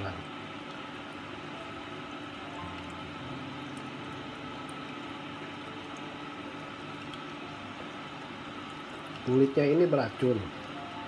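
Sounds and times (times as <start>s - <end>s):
faint equipment hum: 0.0s - 11.0s.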